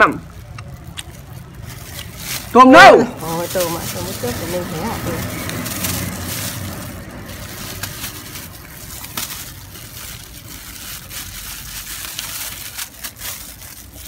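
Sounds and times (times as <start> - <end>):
plastic gloves crinkling: 0.0 - 14.0
fruit flesh tearing wetly: 0.2 - 14.0.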